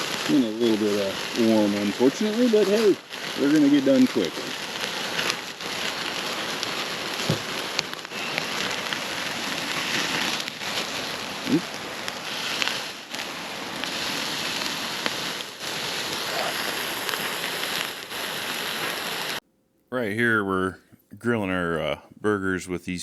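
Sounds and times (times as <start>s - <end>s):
burgers sizzling on a grill: 0.0s - 19.4s
campfire crackling: 0.0s - 19.4s.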